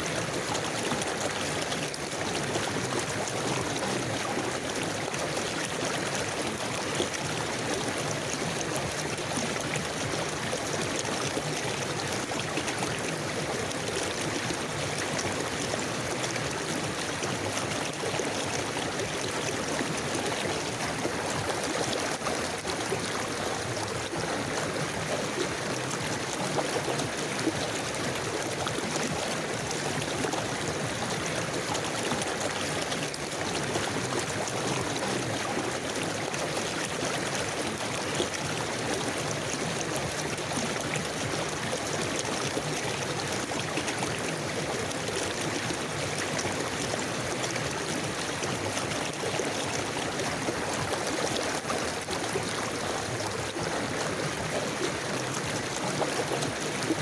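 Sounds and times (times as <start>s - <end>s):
stream water gurgling over rocks: 0.0s - 57.0s.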